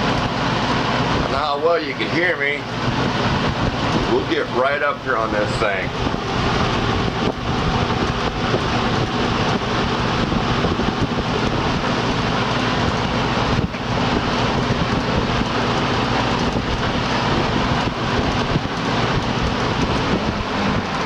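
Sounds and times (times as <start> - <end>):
box fan air rushing: 0.0 - 21.0
low motor hum: 0.0 - 21.0.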